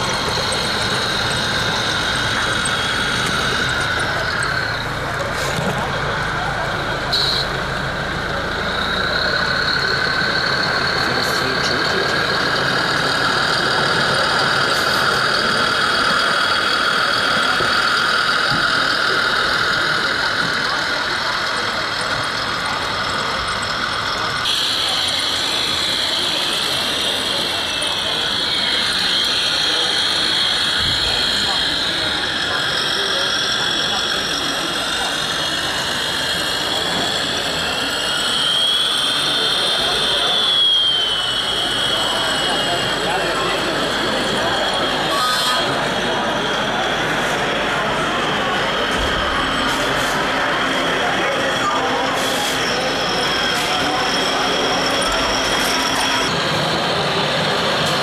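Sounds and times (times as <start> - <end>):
high whine: 0.0 - 58.0
model truck motor drone: 0.0 - 58.0.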